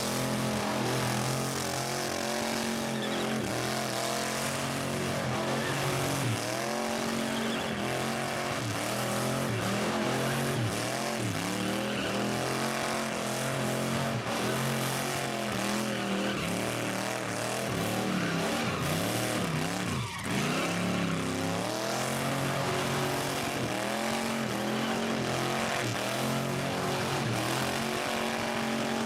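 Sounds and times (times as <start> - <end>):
engine revving hard: 0.0 - 29.0.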